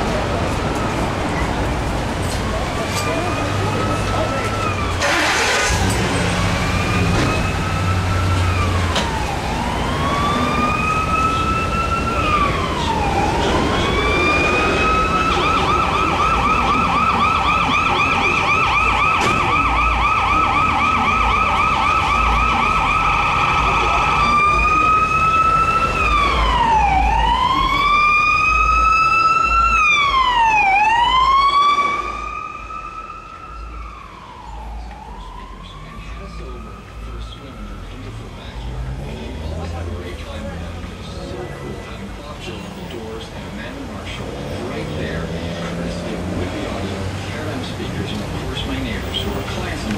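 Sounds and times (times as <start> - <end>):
fire truck siren: 0.0 - 49.9.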